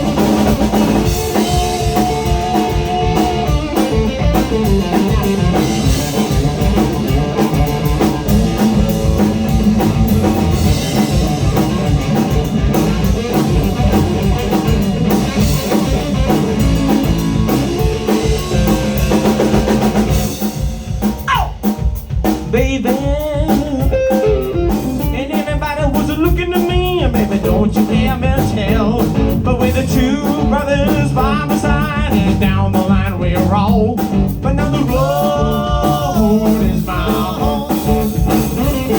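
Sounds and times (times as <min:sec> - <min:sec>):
lead guitar with bent notes: 0:00.0 - 0:20.4, 0:26.6 - 0:38.9
blues-rock band playing: 0:00.0 - 0:38.9.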